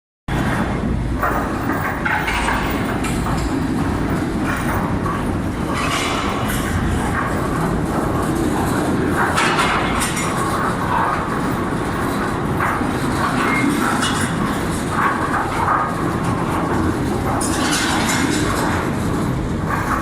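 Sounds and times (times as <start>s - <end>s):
rattling and clatter: 0.3s - 20.0s
rotary dryer rumbling: 0.3s - 20.0s.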